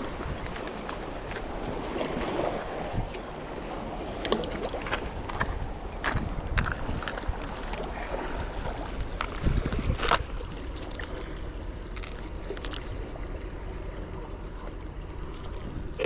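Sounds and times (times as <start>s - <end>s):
small waves washing against rocks: 0.0s - 16.0s
wind buffeting microphone: 0.0s - 16.0s.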